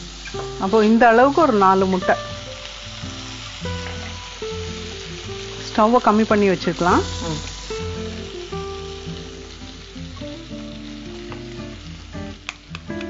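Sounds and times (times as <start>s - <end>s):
food sizzling in a frying pan: 0.0s - 13.0s
soft instrumental music: 0.0s - 13.0s.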